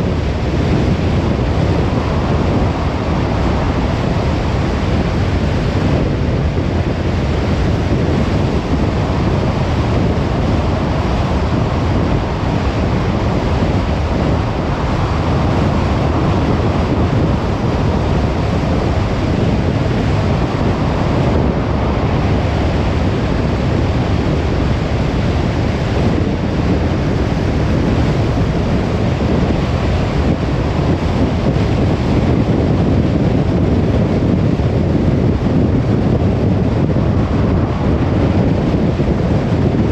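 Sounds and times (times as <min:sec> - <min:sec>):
road and tyre noise: 0:00.0 - 0:39.9
wind: 0:00.0 - 0:39.9.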